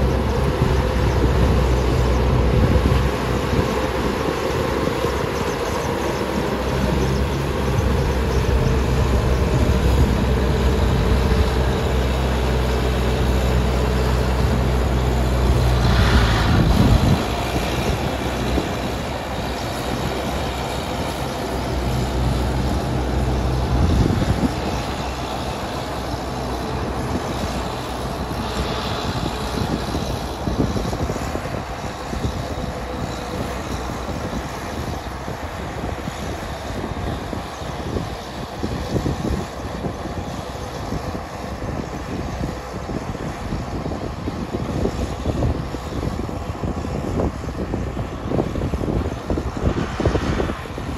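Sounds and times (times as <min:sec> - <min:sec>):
engine low hum: 0:00.0 - 0:50.9.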